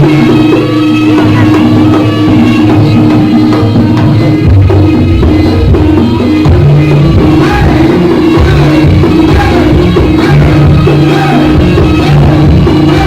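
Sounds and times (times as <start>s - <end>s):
deep bass: 0.0s - 13.0s
drums: 0.0s - 13.0s
live traditional music: 0.0s - 13.0s.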